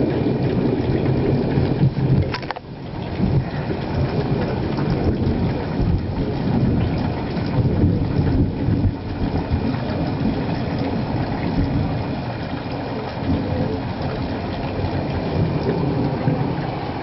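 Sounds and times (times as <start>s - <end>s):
low rumble of thunder: 0.0s - 17.0s
rain: 0.0s - 17.0s.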